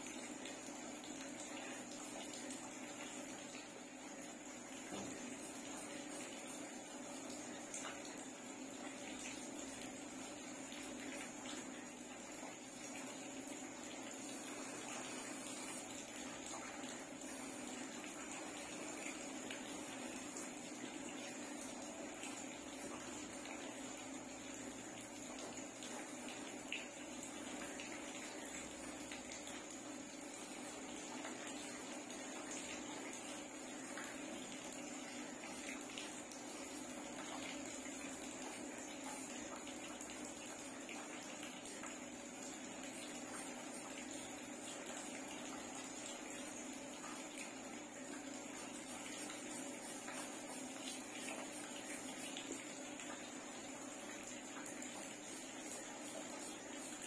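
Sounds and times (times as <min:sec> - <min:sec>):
faint hum: 0:00.0 - 0:57.0.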